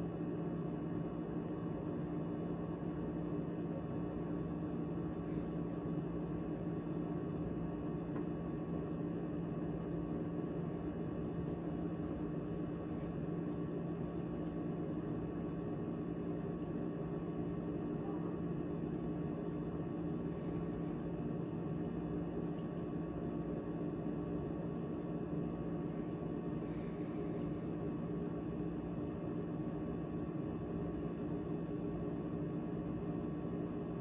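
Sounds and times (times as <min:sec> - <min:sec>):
refrigerator humming: 0:00.0 - 0:34.0.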